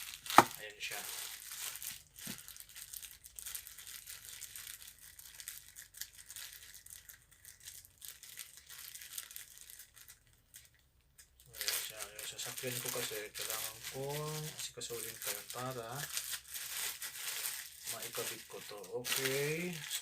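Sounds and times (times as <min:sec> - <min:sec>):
packaging crinkling: 0:00.0 - 0:10.8, 0:11.4 - 0:20.0.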